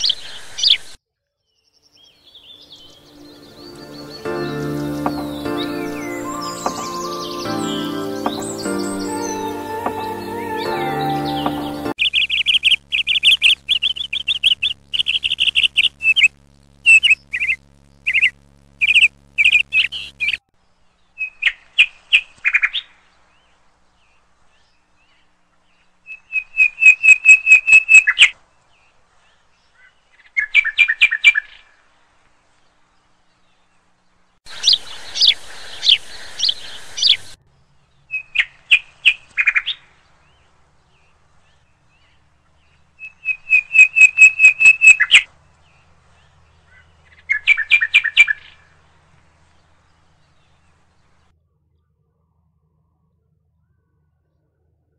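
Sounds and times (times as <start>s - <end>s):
bird chirps and trills: 1.6s - 31.8s, 34.5s - 51.1s.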